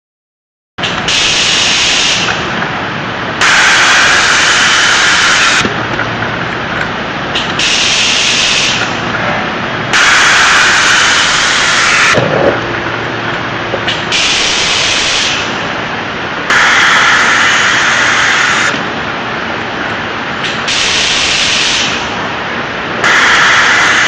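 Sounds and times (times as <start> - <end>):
machine hissing whir: 0.8 - 24.0.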